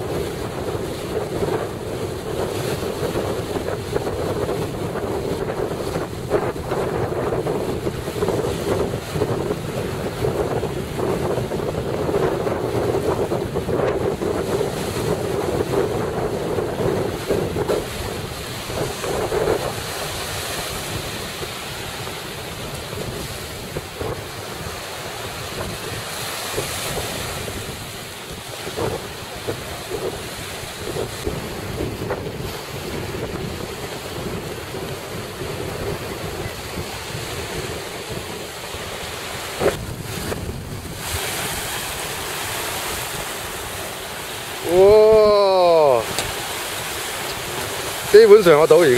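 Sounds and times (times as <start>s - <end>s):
waves washing: 0.0s - 48.9s
wind buffeting microphone: 0.0s - 48.9s.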